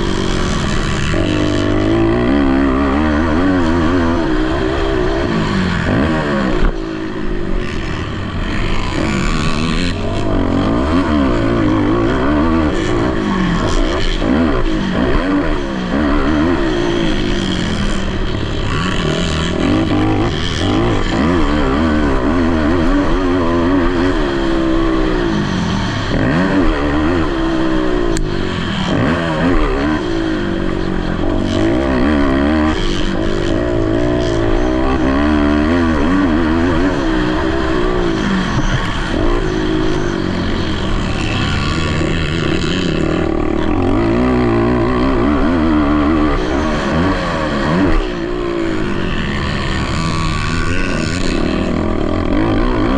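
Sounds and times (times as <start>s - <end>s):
quad engines revving: 0.0s - 52.9s.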